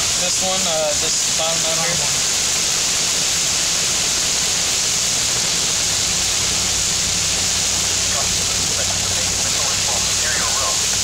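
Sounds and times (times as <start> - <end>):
heavy rain on car roof: 0.0 - 11.0
engine and road hum: 2.0 - 11.0.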